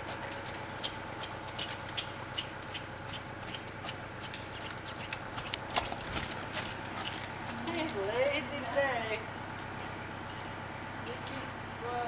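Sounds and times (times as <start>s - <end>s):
horse trotting on sand: 0.0s - 10.5s.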